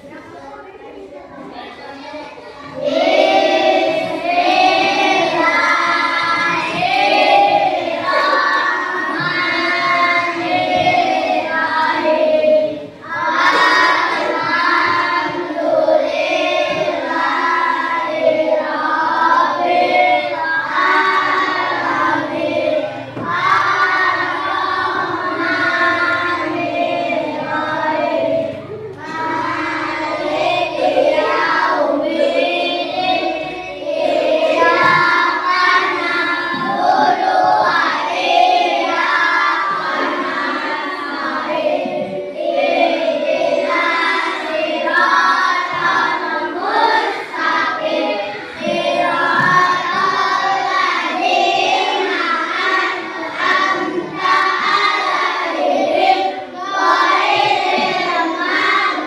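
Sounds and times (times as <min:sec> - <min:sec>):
children chanting a prayer: 0:00.0 - 0:59.0.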